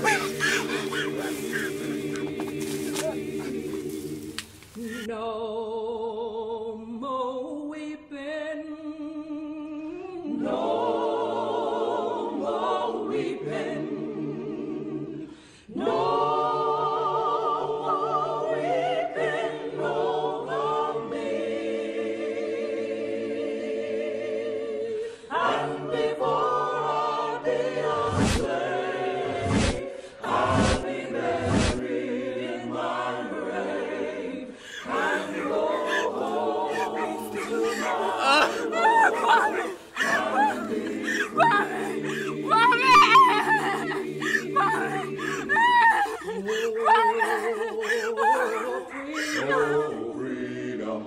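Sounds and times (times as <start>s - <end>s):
choir singing: 0.0s - 7.0s, 9.5s - 51.0s.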